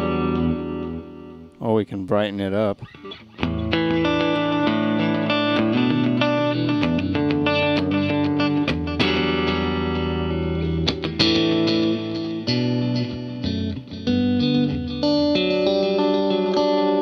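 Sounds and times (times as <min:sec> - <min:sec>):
electric guitar notes and chords: 0:00.0 - 0:17.0.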